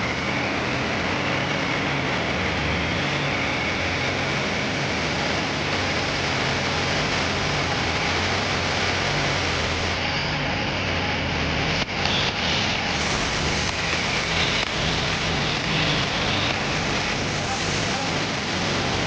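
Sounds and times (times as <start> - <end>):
boat engine hum: 0.0 - 19.0
rushing water: 0.0 - 19.0.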